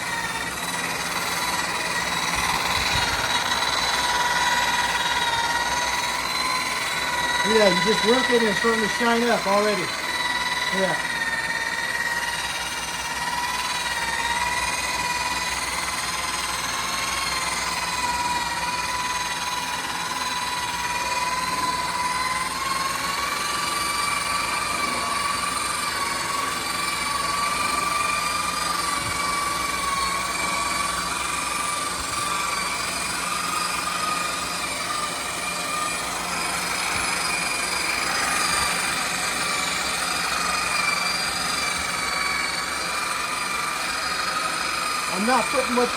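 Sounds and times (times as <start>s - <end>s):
electric buffer motor whine: 0.0s - 45.9s.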